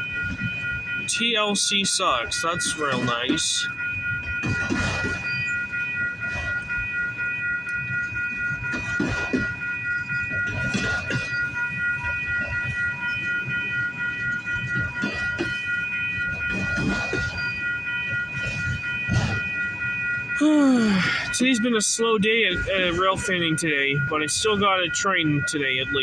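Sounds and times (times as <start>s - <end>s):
steady high-pitched tone: 0.0s - 26.0s.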